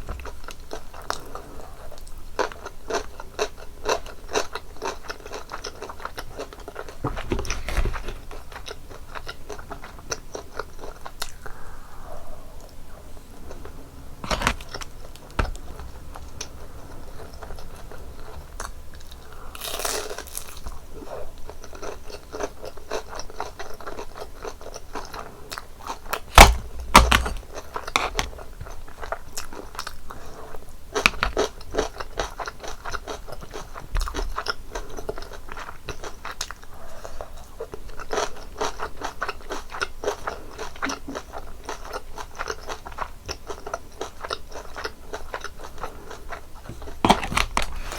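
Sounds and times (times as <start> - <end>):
crunchy chewing of fried food: 0.0 - 11.7, 12.3 - 47.9.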